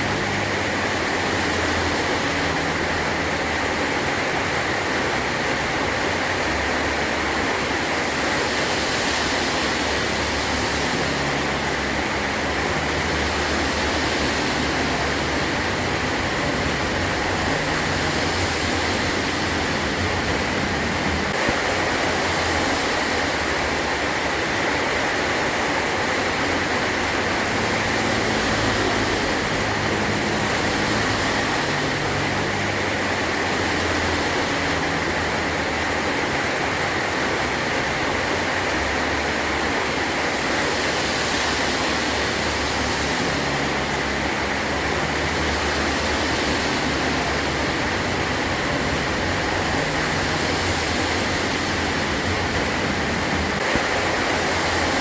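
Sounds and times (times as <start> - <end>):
heavy rain on a metal roof: 0.0 - 55.0.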